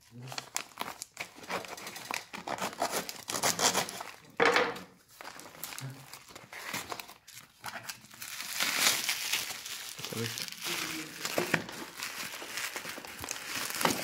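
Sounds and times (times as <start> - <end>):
packaging crinkling and tearing: 0.0 - 4.4, 5.0 - 14.0.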